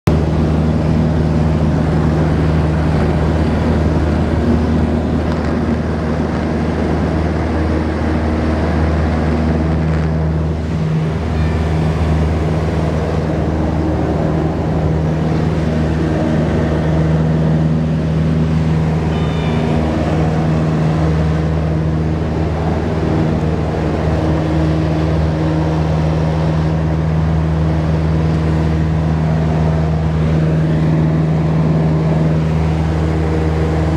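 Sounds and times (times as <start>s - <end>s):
airplane engine and propeller drone: 0.1s - 33.9s.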